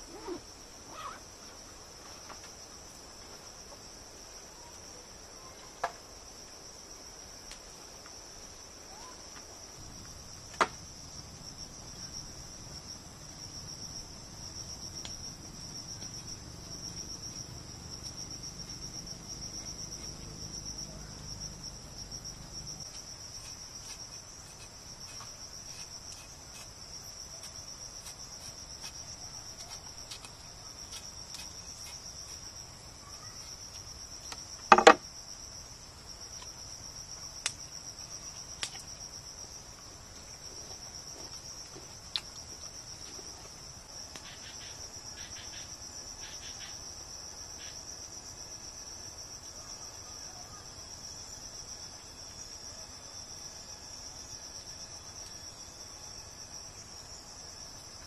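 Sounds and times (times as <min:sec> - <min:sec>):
high-pitched insect chorus: 0:00.0 - 0:06.0, 0:08.0 - 0:58.0.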